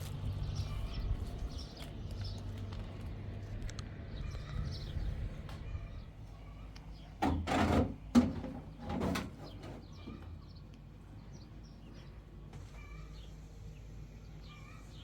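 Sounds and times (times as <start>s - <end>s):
small birds chirping: 0.0s - 7.2s, 9.4s - 15.0s.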